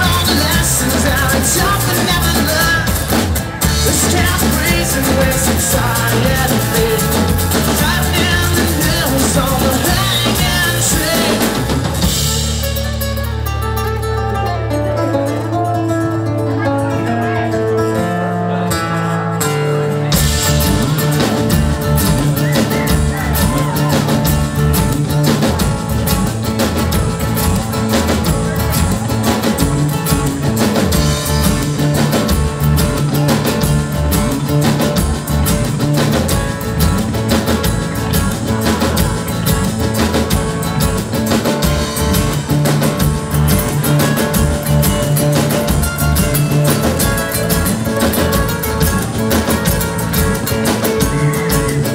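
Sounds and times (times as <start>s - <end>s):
drum kit: 0.0s - 18.6s, 19.3s - 51.9s
electric bass: 0.0s - 51.9s
nylon-string guitar: 0.0s - 51.9s.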